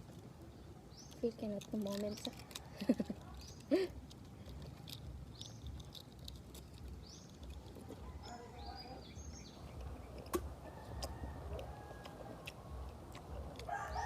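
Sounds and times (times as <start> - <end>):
low background rumble: 0.0 - 14.0
small birds chirping: 0.0 - 14.0.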